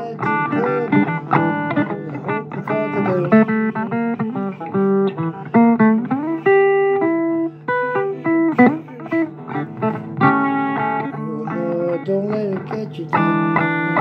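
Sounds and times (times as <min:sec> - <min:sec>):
blues guitar playing: 0:00.0 - 0:14.0.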